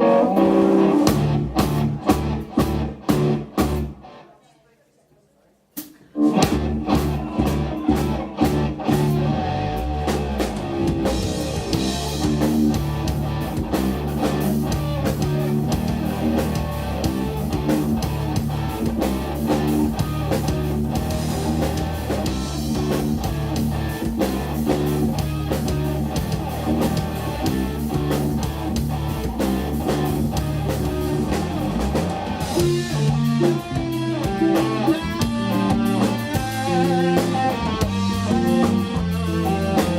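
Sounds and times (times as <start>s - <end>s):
drum kit: 0.0s - 4.1s, 5.8s - 39.9s
bass guitar: 0.0s - 4.2s, 6.2s - 39.9s
electric guitar: 0.0s - 4.4s, 6.2s - 39.9s.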